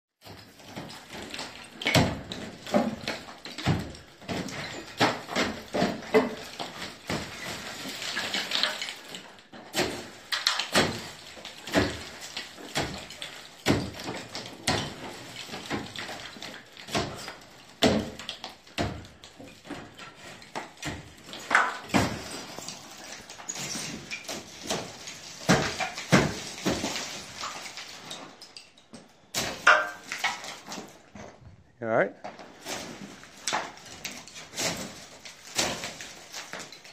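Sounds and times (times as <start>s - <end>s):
plaster debris falling: 0.2s - 31.5s, 32.2s - 36.9s.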